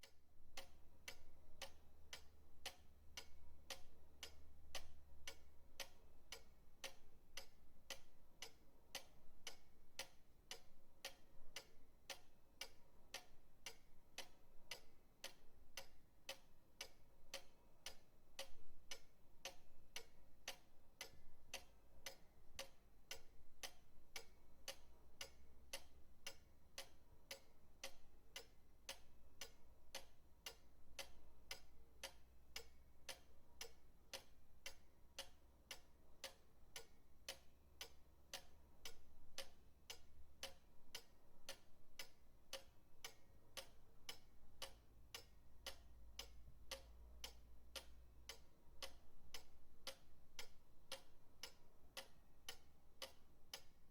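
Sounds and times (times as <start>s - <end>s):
pendulum clock ticking: 0.0s - 53.9s.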